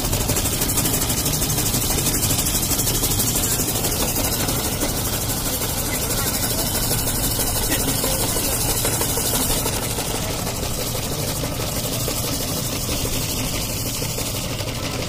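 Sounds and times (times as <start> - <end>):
ice-shaving machine grinding ice: 0.0 - 15.0.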